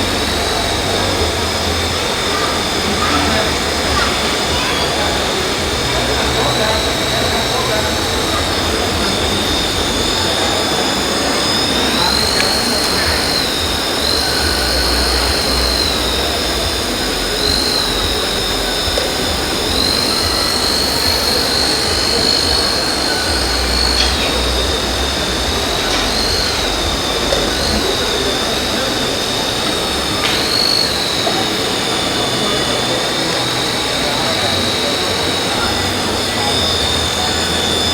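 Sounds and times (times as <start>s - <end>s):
electric motor whine: 0.0s - 37.9s
noisy running sound: 0.0s - 37.9s.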